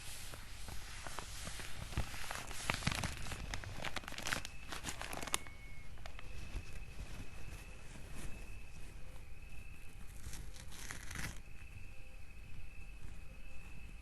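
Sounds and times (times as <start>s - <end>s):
paper crinkling: 0.0s - 11.6s.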